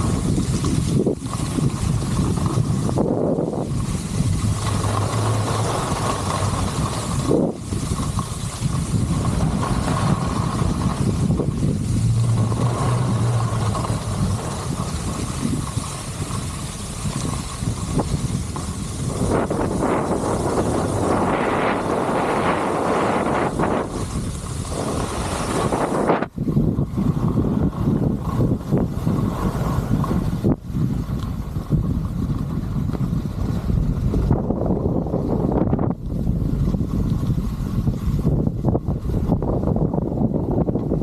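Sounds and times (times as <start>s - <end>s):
skis scraping on snow: 0.0s - 41.0s
wind rushing over microphone: 0.0s - 41.0s.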